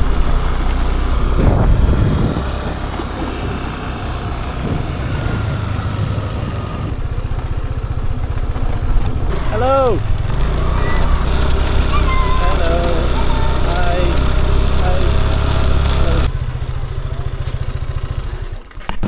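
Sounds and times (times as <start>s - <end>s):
rushing noise: 0.0s - 16.3s
motorbike engine running: 0.0s - 19.0s.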